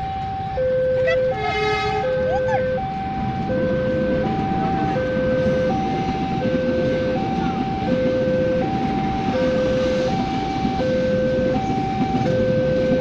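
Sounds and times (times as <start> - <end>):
crossing alarm two-note tone: 0.0 - 13.0
passing train rumble: 0.0 - 13.0.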